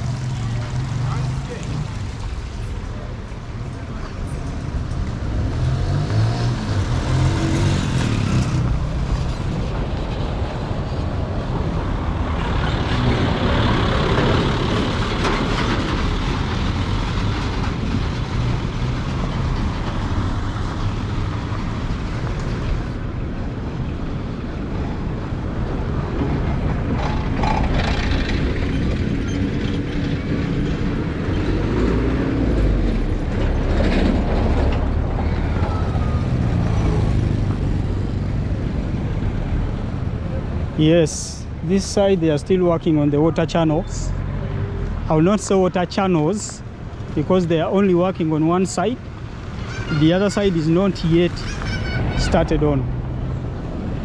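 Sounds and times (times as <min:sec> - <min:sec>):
vehicle engines running: 0:00.0 - 0:54.0.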